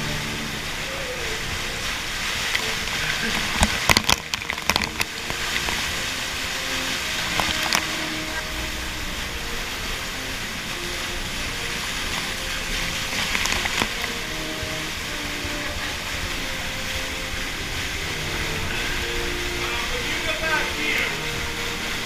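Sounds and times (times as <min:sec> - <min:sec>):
waterfall rushing: 0:00.0 - 0:22.0
sharp splashes and knocks: 0:01.6 - 0:19.7.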